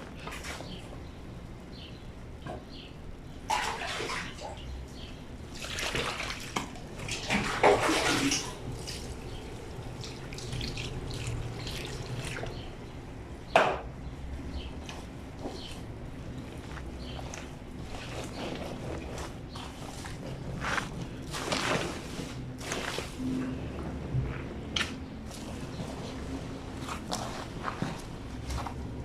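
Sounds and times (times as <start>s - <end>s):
water splashing and sloshing: 3.4s - 13.0s, 14.8s - 29.0s.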